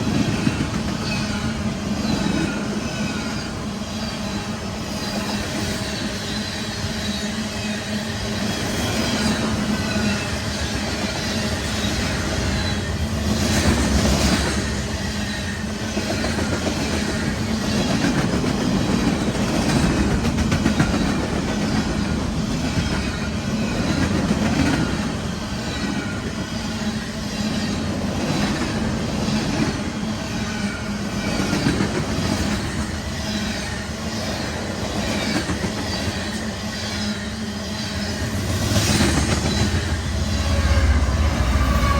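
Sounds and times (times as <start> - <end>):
freight train cars rolling past: 0.0 - 41.9.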